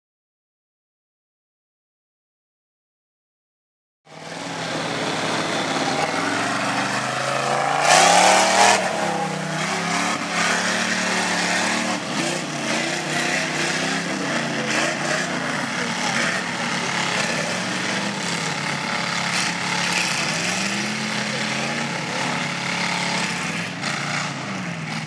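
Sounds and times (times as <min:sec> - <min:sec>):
tires churning through mud: 0:04.1 - 0:25.0
truck engine running hard: 0:04.1 - 0:25.0.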